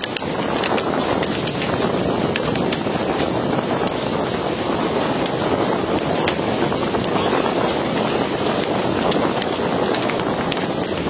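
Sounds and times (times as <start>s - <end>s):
churning sea water: 0.0s - 11.0s
wind rushing: 0.0s - 11.0s.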